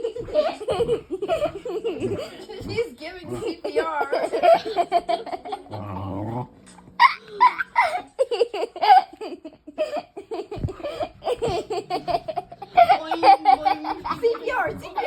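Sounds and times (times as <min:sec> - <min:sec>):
person laughing: 0:00.0 - 0:06.0, 0:07.0 - 0:15.0.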